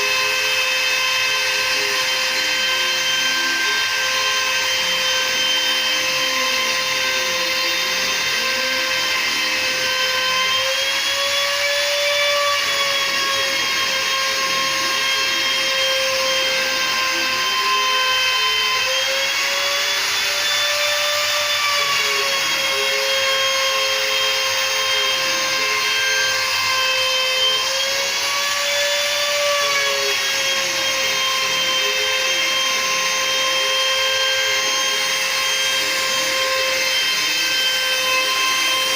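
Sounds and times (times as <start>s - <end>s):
spindle high whine: 0.0s - 38.9s
stepper motors whining: 0.0s - 38.9s.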